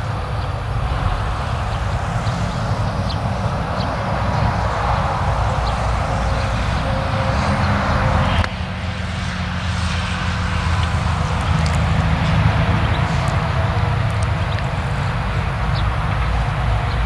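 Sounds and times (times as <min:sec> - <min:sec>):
deep engine drone: 0:00.0 - 0:17.0.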